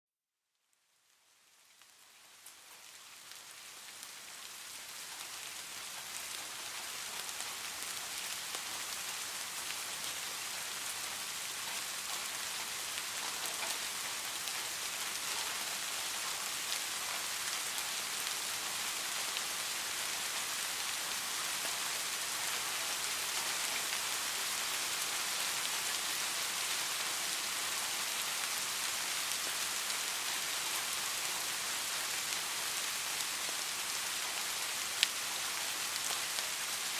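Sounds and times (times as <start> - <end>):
rain pattering: 1.0 - 36.9.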